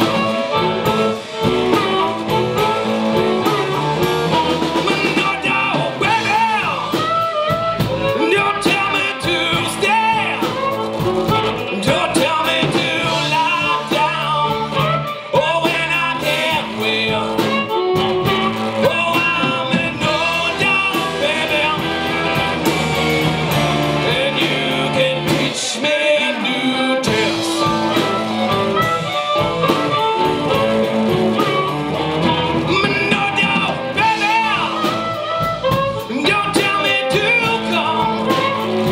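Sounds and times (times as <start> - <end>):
man singing lead vocal: 0.0 - 28.9, 29.6 - 35.4, 36.0 - 38.9
drum kit: 0.0 - 38.9
electric guitars: 0.0 - 38.9.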